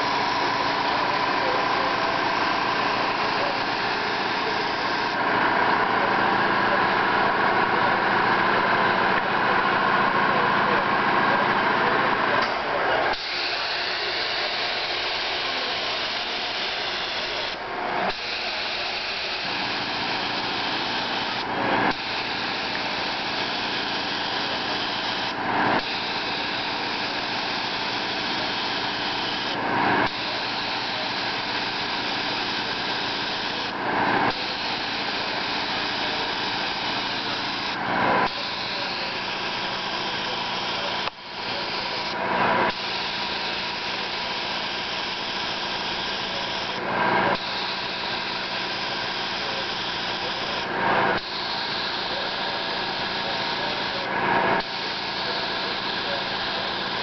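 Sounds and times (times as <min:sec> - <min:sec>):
air puff from spray gun: 0:00.0 - 0:05.2, 0:13.1 - 0:54.0, 0:54.6 - 0:57.0
paint spray gun hissing: 0:00.0 - 0:05.2, 0:12.7 - 0:57.0.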